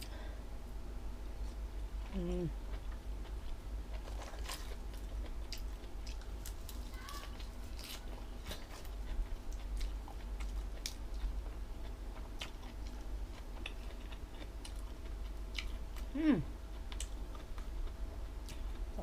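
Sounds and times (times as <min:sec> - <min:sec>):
steady low hum: 0:00.0 - 0:19.0
person chewing crunchy food: 0:01.4 - 0:19.0.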